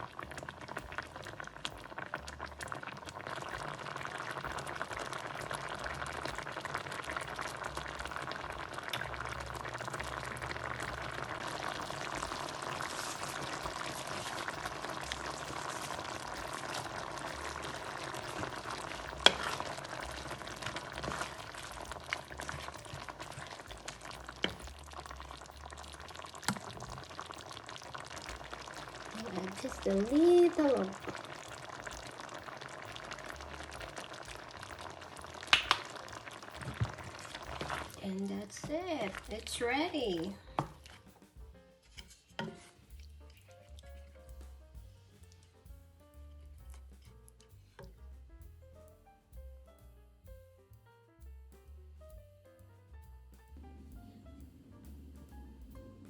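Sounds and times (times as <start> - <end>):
curry simmering and bubbling: 0.0 - 45.6, 46.2 - 48.2.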